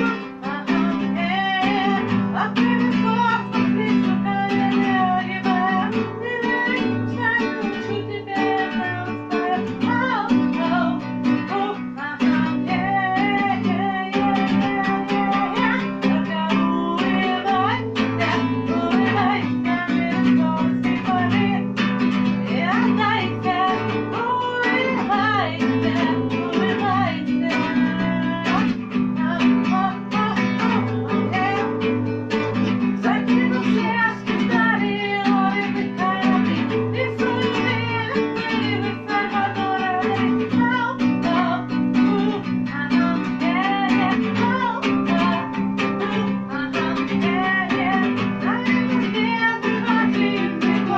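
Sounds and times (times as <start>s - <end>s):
acoustic guitar strumming: 0.0s - 50.9s
person singing: 0.0s - 50.9s.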